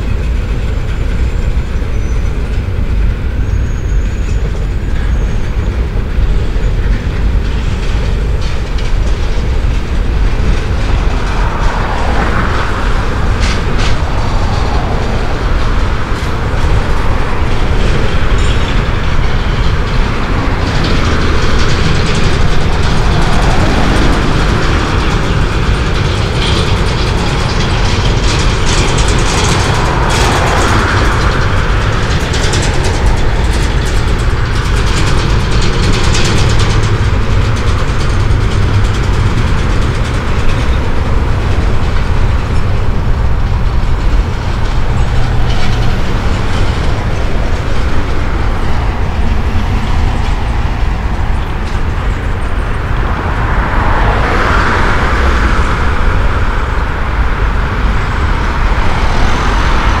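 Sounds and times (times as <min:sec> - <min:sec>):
freight train rolling across bridge: 0:00.0 - 1:00.0
road traffic: 0:00.0 - 1:00.0.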